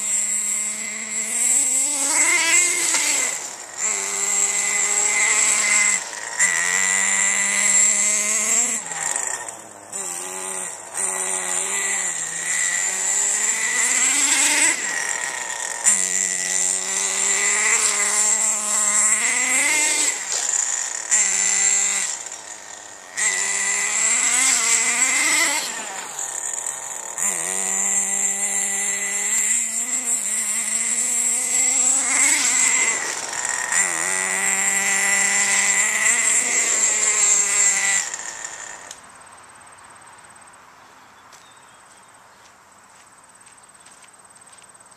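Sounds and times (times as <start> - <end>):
rc car motor revving: 0.0 - 39.1.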